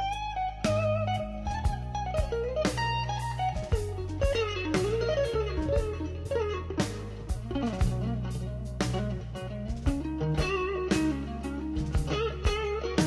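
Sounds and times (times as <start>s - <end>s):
electric guitar lead with beat: 0.0s - 13.0s.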